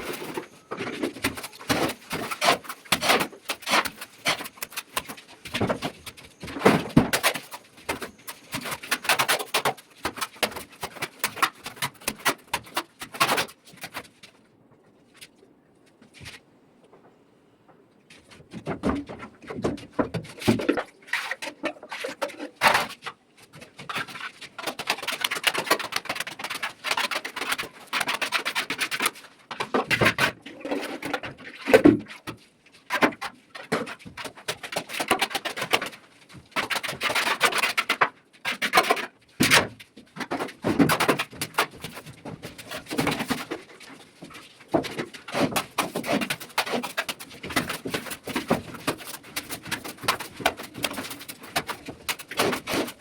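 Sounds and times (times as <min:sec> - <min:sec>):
plastering tool scraping plaster: 0:00.0 - 0:14.2, 0:18.2 - 0:53.0.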